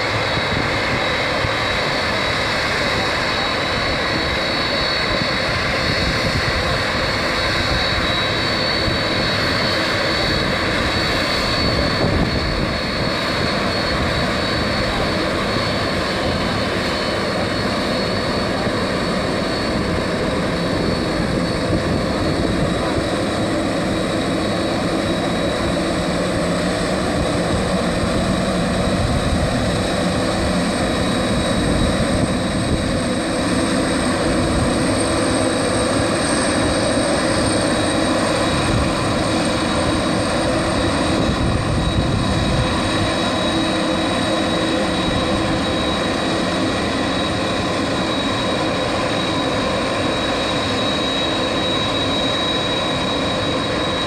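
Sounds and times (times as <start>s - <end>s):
jet turbines running: 0.0s - 54.0s.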